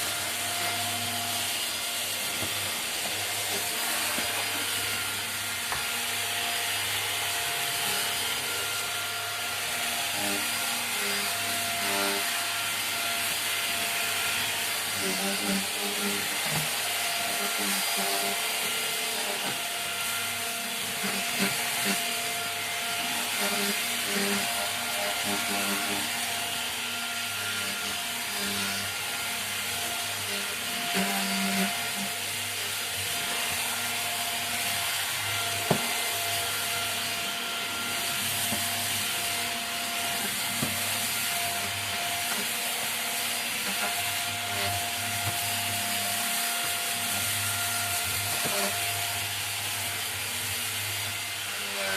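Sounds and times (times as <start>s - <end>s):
stick vacuum whining: 0.0s - 51.9s.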